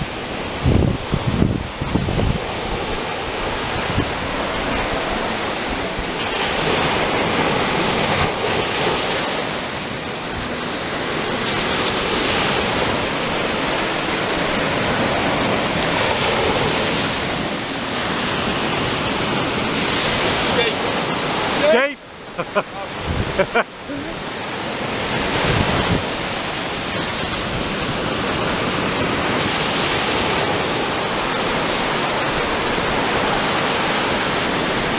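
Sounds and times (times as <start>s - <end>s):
ocean waves breaking on beach: 0.0s - 34.9s.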